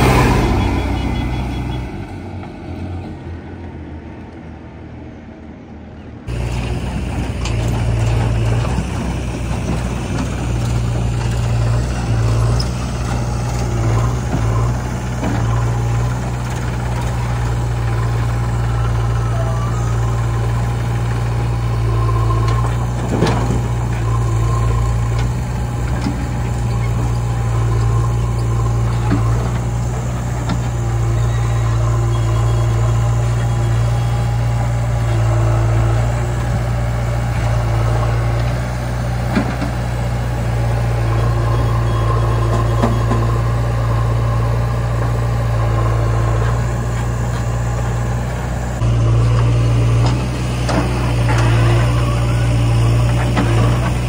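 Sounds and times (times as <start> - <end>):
diesel engines running: 0.0 - 54.0
soil being loaded: 6.3 - 54.0.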